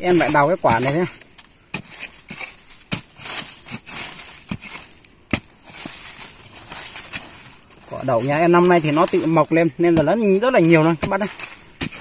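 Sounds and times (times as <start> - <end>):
digging tool striking hard ground: 0.0 - 12.0.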